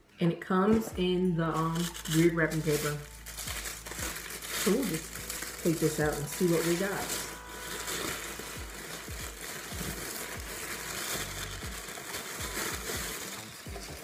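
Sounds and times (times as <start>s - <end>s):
paper wrap rustling: 1.5s - 14.0s.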